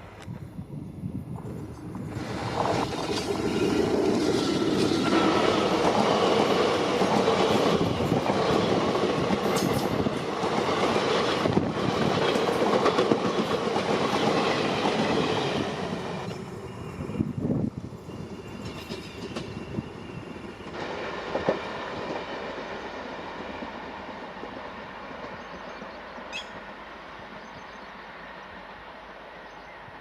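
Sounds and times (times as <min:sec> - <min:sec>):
train passing at speed: 0:00.0 - 0:30.0.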